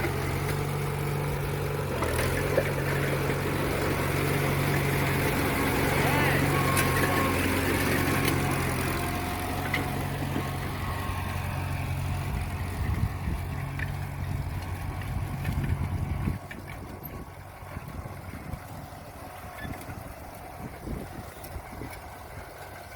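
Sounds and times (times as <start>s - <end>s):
tractor engine idling: 0.0s - 22.9s.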